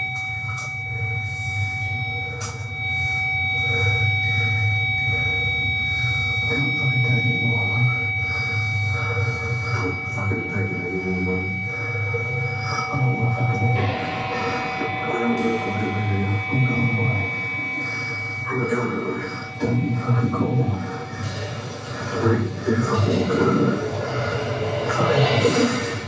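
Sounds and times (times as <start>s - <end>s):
high feedback tones: 0.0s - 26.0s
low droning hum: 0.0s - 26.0s.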